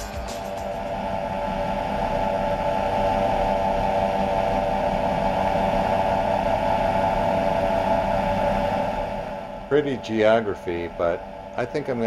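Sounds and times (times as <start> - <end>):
ultralight engine and propeller drone: 0.0 - 12.0.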